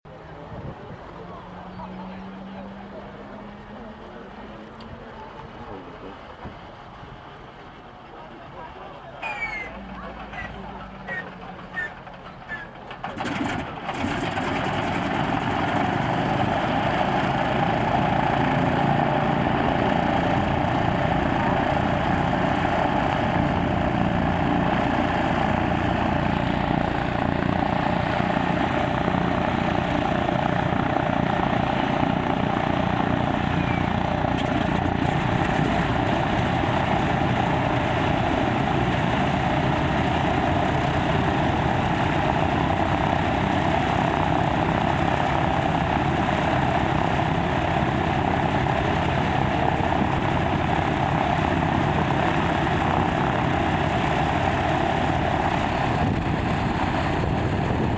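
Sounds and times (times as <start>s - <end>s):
radial aircraft engine starting: 0.1s - 57.9s.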